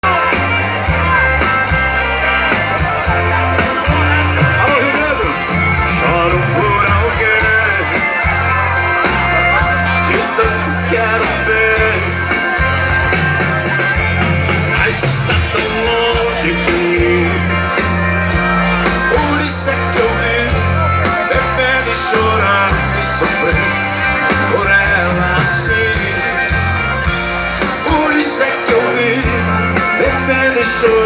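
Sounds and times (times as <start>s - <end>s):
live band playing upbeat song: 0.0s - 31.0s
pulsing bass line: 0.0s - 31.0s.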